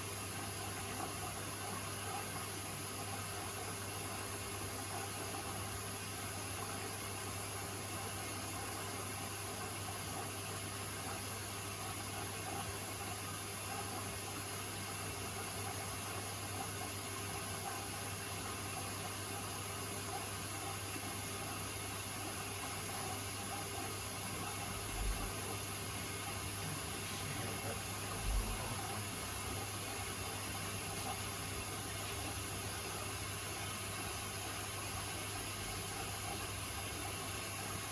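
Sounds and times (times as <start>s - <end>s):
washing machine running: 0.0s - 37.9s.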